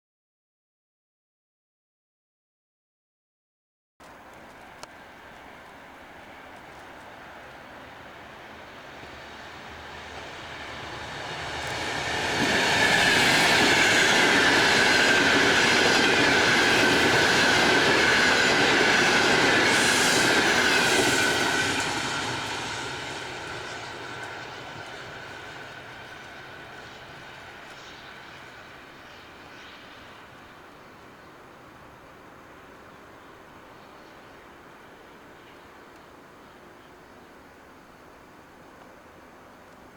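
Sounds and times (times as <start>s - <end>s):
train passing by: 4.0s - 39.9s.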